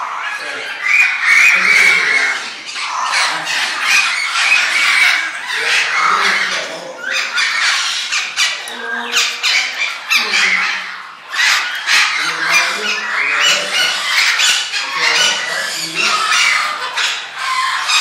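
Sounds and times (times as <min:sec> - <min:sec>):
birds squawking: 0:00.0 - 0:18.0.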